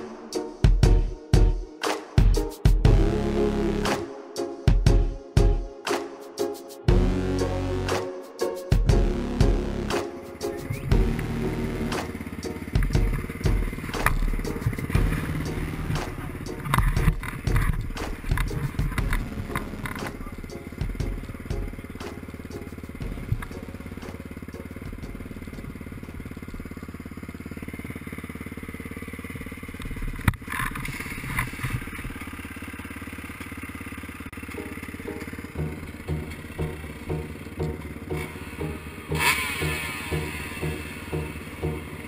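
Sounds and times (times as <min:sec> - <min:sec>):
motorcycle engine at low revs: 0:06.9 - 0:08.1, 0:08.8 - 0:42.0.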